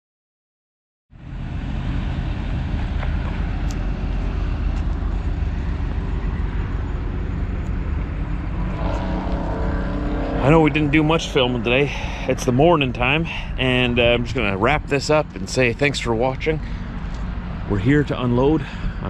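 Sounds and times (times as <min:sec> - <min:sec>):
diesel truck engine idling: 0:01.2 - 0:08.7, 0:10.4 - 0:19.0.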